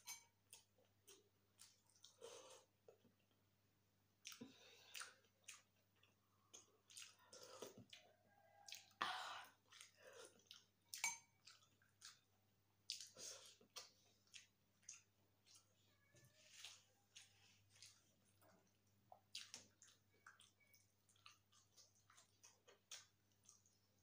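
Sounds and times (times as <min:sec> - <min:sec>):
wet chewing and mouth clicks: 0:00.0 - 0:03.4, 0:04.2 - 0:24.0.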